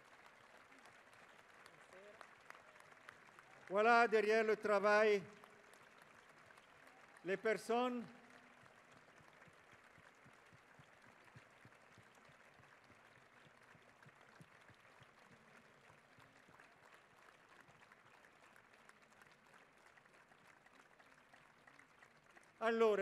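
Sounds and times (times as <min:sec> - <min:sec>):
distant crowd applause: 0:00.0 - 0:23.0.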